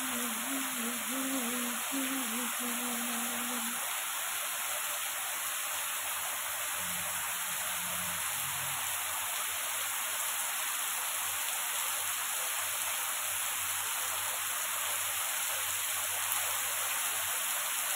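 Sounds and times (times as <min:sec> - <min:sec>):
heavy rain on leaves and pavement: 0:00.0 - 0:17.9.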